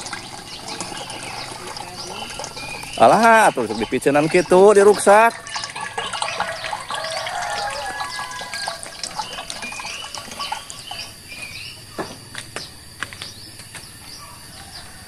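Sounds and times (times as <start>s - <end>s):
small birds chirping: 0.0s - 5.3s, 6.0s - 15.0s
high insect drone: 0.0s - 15.0s.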